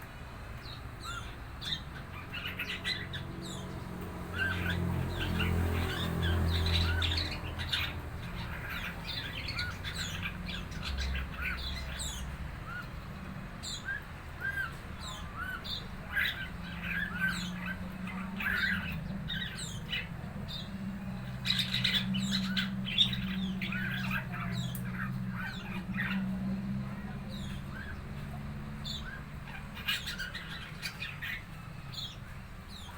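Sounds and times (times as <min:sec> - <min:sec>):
bird chirps and squawks: 0:01.0 - 0:13.0, 0:13.6 - 0:32.9.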